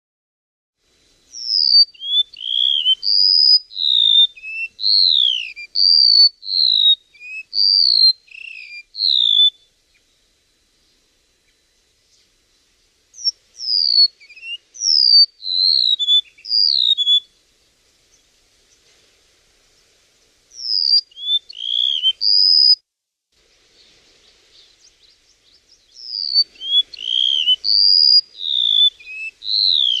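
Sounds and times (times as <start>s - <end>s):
songbird singing: 1.2s - 22.8s, 23.4s - 30.0s.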